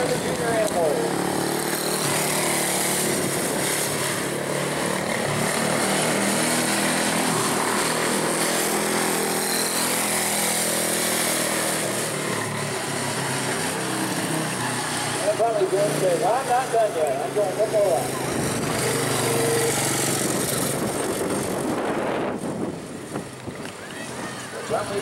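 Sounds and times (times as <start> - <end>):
small race car engine buzzing: 0.0 - 25.0.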